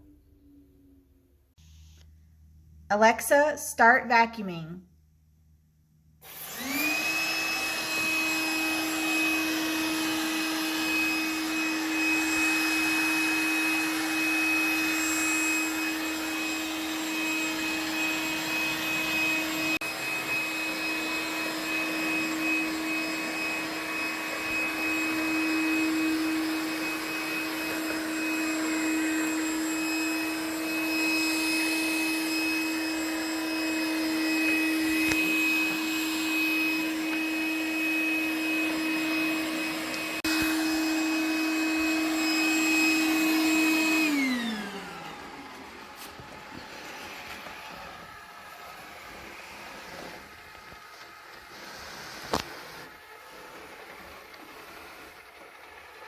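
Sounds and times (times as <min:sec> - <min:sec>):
robot vacuum motor whining: 0:06.2 - 0:56.0.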